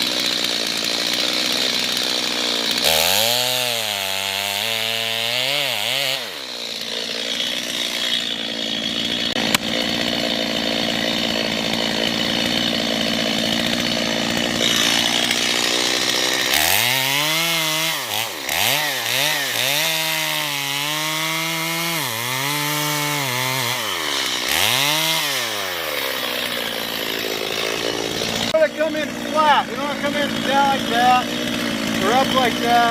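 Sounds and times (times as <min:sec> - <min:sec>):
chainsaw cutting tree trunk: 0:00.0 - 0:32.9.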